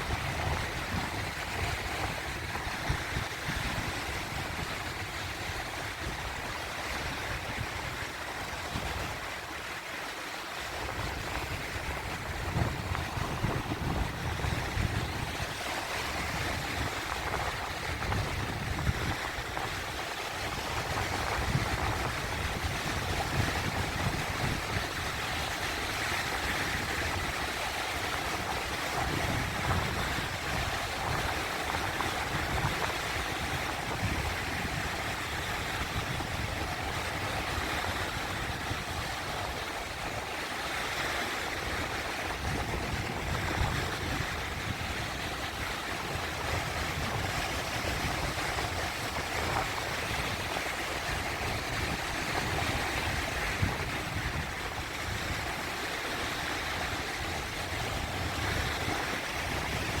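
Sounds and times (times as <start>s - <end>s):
sea waves washing in: 0.0s - 60.0s.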